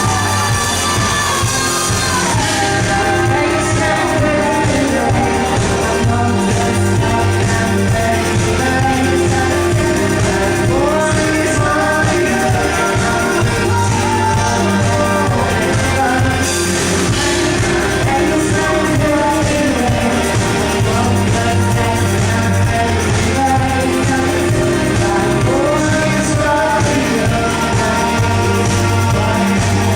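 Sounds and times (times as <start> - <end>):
live rock band playing: 0.0 - 29.9
person singing lead vocal: 0.0 - 29.9.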